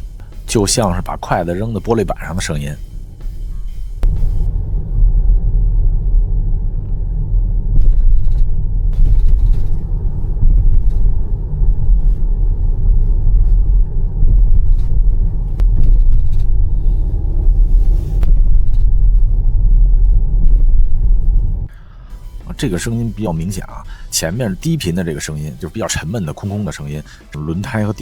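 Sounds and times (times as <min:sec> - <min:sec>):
car cabin rumble over bumps: 0:00.0 - 0:27.0.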